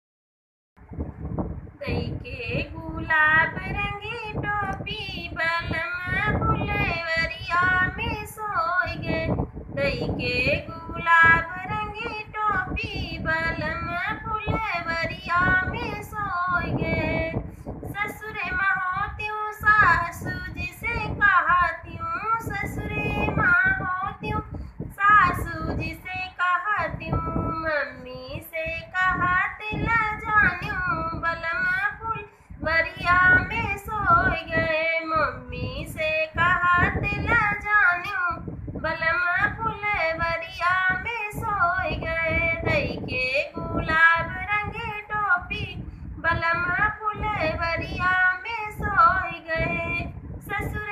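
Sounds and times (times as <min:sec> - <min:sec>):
woman singing folk song: 0:01.8 - 0:50.9.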